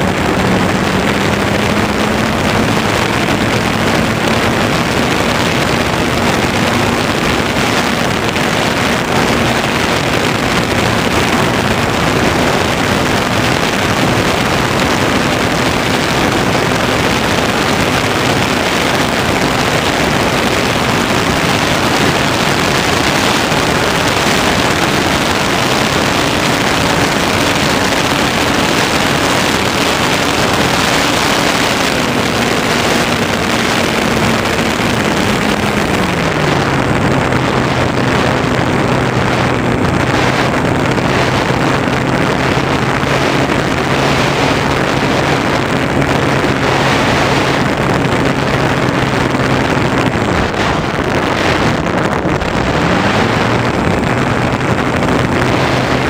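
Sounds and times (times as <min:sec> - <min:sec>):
airflow rushing over camera: 0:00.0 - 0:56.0
electric motor and propeller hum: 0:00.0 - 0:56.0.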